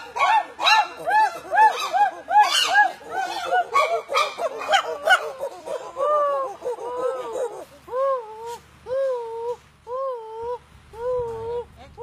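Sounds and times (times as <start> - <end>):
chimpanzees hooting: 0.0 - 11.8.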